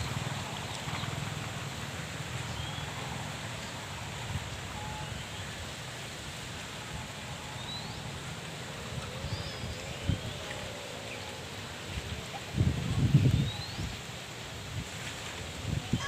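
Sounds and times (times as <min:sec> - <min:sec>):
wind rumble and hiss: 0:00.0 - 0:16.0.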